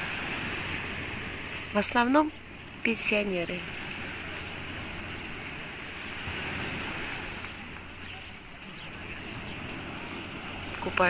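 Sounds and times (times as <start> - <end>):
sea waves washing onto pebbles: 0.0 - 11.0.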